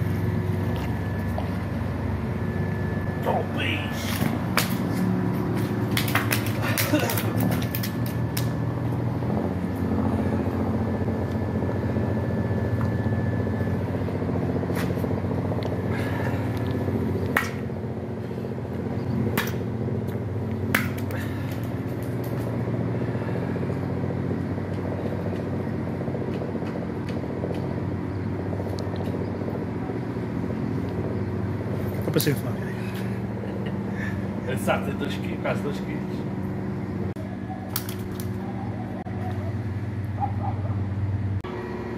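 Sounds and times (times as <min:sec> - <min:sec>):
engine idling drone: 0:00.0 - 0:41.9.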